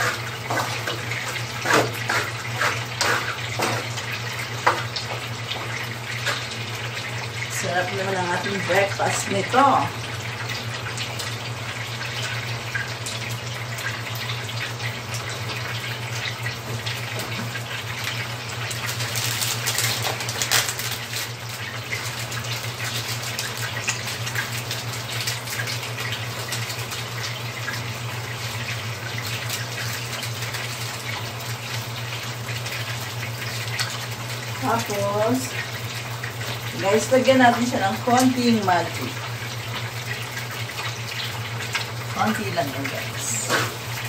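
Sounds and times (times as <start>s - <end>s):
sausages sizzling in a frying pan: 0.0s - 44.0s.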